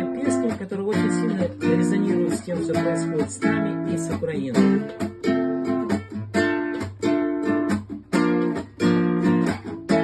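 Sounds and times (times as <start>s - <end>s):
guitar strumming chords: 0.0s - 10.0s.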